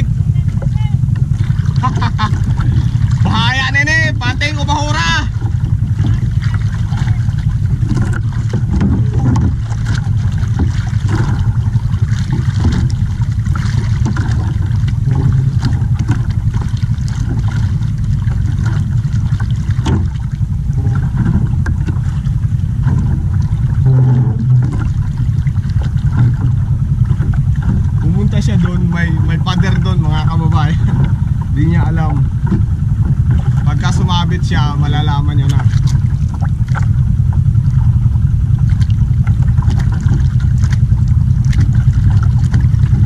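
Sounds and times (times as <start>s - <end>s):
boat engine idling: 0.0s - 43.0s.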